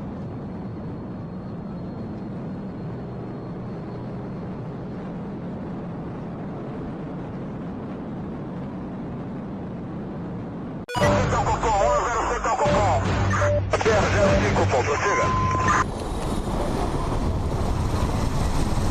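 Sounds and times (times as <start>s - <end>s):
low vehicle rumble: 0.0s - 18.9s.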